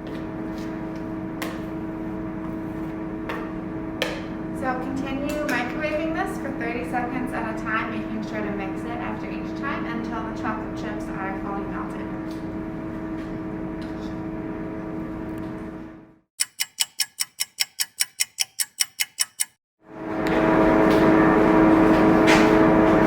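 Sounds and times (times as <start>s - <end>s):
microwave oven humming: 0.0s - 16.2s, 19.9s - 23.0s.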